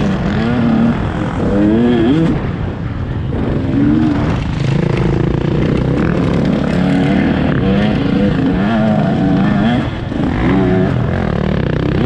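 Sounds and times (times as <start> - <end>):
dirt bike engine revving: 0.0 - 2.8, 3.4 - 12.0.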